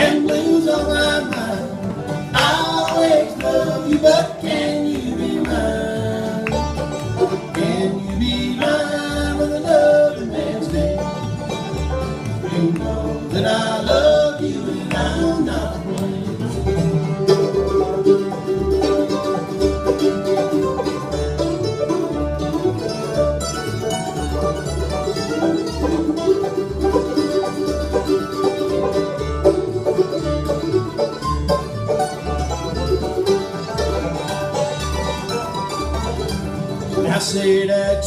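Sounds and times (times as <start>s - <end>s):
bass beat: 0.0s - 37.0s
banjo picking: 0.0s - 38.0s
rhythm guitar: 0.0s - 38.0s.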